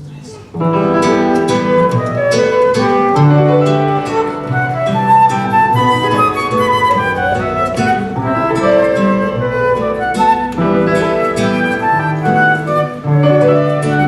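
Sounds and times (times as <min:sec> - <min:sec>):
plucked strings: 0:00.0 - 0:14.0
flute melody: 0:00.6 - 0:14.0.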